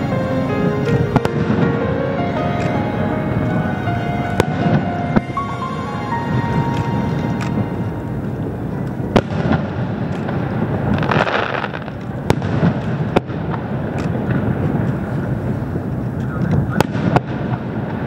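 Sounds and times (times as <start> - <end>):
firework crackling: 0.0 - 18.0
firework shells bursting: 0.0 - 18.0.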